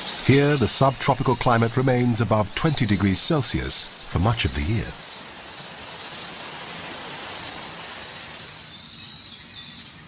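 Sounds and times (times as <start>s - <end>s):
waterfall rushing into pool: 0.0s - 8.7s.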